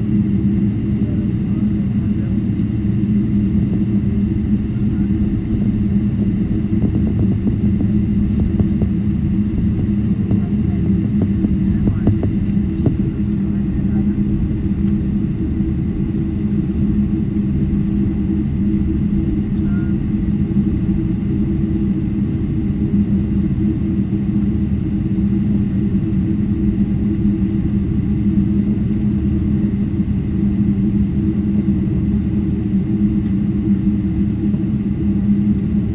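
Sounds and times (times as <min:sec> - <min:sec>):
airliner cabin rumble: 0:00.0 - 0:35.9
jet engine drone: 0:00.0 - 0:35.9.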